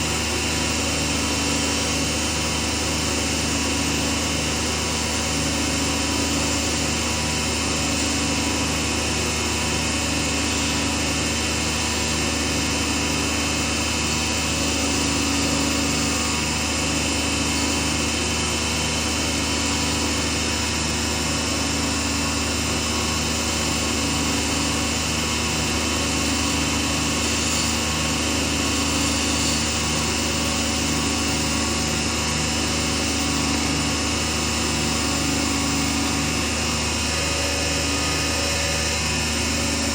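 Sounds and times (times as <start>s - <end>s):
woodworking lathe motor hum: 0.0s - 39.9s.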